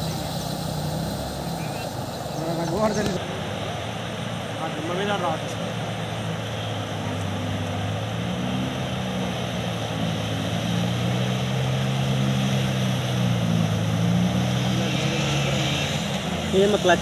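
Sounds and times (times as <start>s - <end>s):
motorcycle engines running: 0.0s - 17.0s
water rushing: 0.0s - 17.0s.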